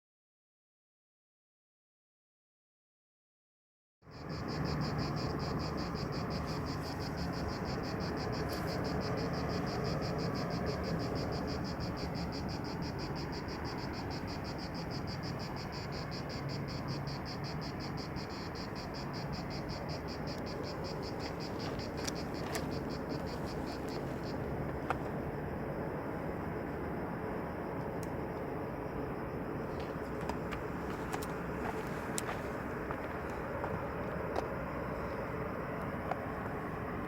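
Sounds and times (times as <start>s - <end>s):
cicadas buzzing: 4.0s - 37.0s.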